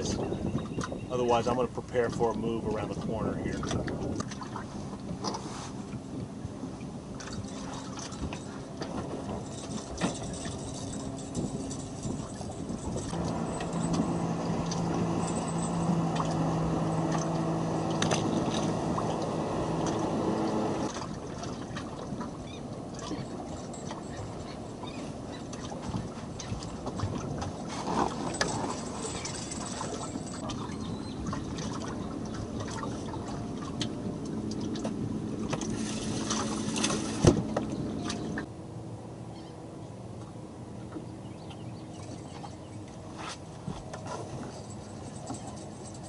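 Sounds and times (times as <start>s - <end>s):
motorboat engine droning: 0.0s - 46.0s.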